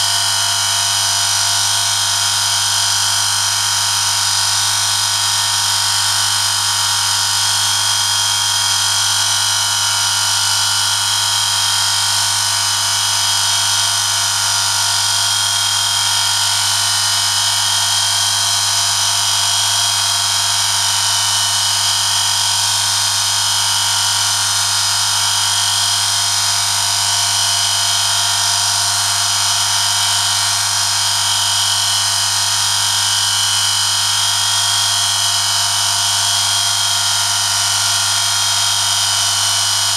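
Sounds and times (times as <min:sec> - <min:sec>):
electric motor humming and whining: 0:00.0 - 0:39.9.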